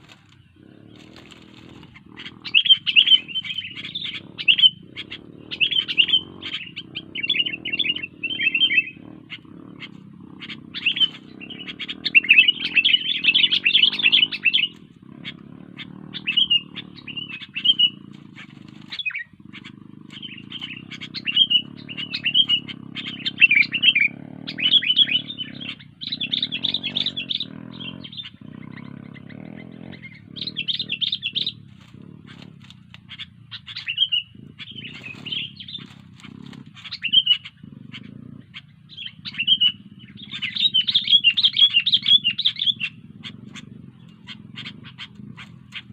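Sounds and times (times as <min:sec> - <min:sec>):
bulbul singing chirpy phrases: 0:00.0 - 0:45.9
steady low hum: 0:00.0 - 0:45.9.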